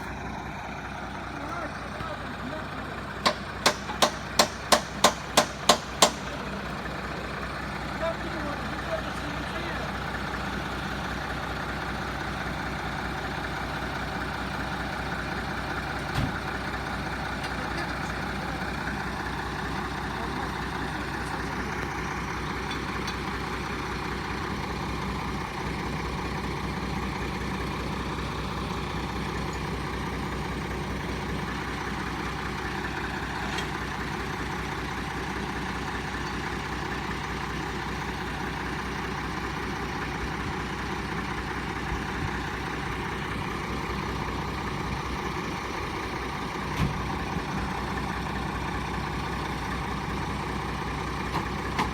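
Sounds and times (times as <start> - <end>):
heavy truck engine running: 0.0 - 51.9.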